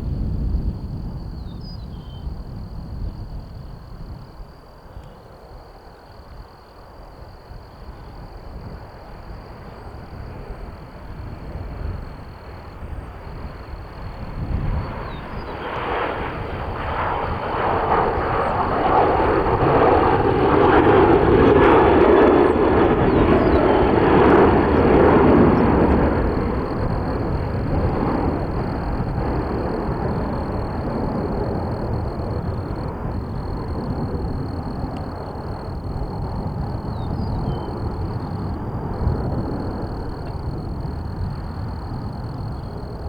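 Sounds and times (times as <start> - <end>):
jet aircraft passing: 7.2 - 43.0.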